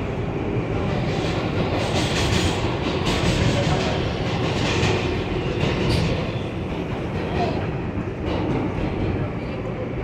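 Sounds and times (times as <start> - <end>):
subway wheels rumbling on rails: 0.0 - 10.0.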